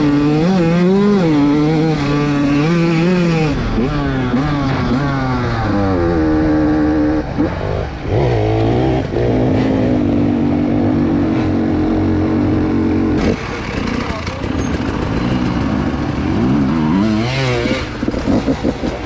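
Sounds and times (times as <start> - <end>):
dirt bike engine accelerating: 0.0 - 19.0.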